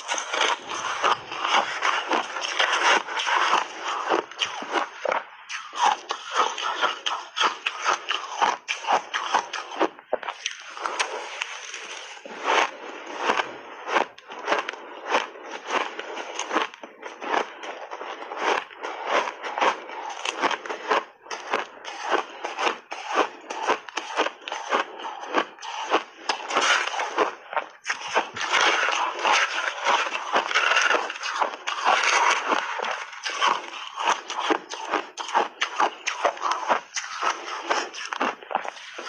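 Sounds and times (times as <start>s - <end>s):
person chewing shaved ice: 0.0s - 39.0s.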